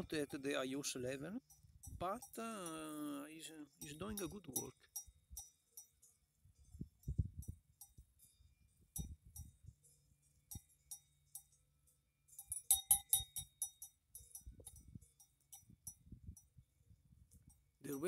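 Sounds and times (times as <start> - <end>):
cow bell clinking: 0.0 - 18.0.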